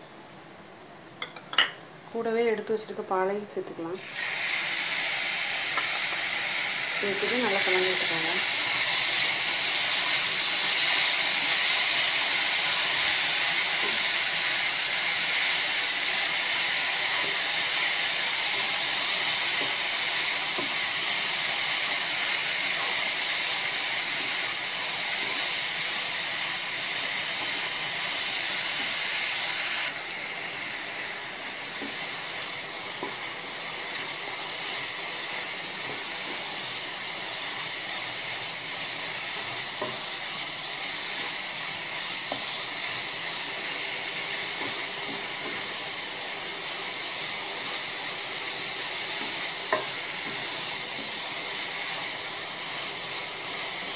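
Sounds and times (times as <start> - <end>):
food sizzling in a pan: 1.2 - 53.9.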